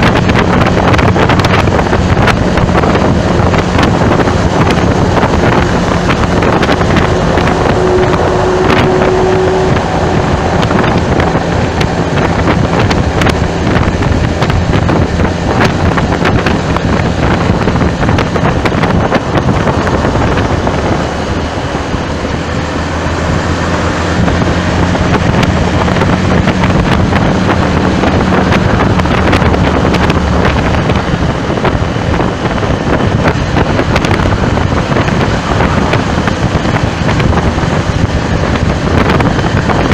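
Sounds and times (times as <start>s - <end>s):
traffic: 0.0s - 39.9s
vehicle engine hum: 0.0s - 39.9s
wind rushing over microphone: 0.0s - 39.9s.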